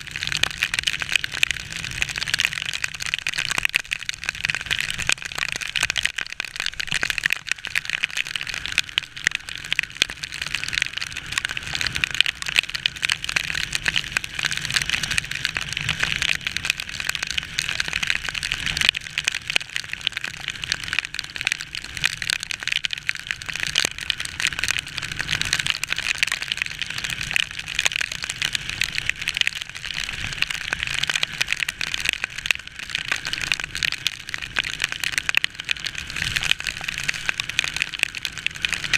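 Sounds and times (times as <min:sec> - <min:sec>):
rain and wind crackle: 0:00.0 - 0:38.9.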